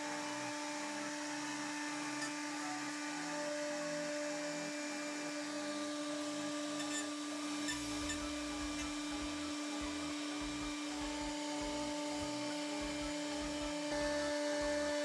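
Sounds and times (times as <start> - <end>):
end mill cutting wood: 0.0 - 15.0
router spindle whining: 0.0 - 15.0.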